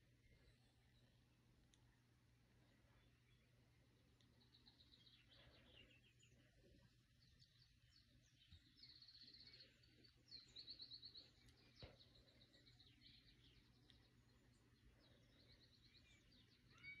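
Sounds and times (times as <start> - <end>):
faint birdsong chirps and trills: 0.0 - 17.0
low steady hum: 0.0 - 17.0.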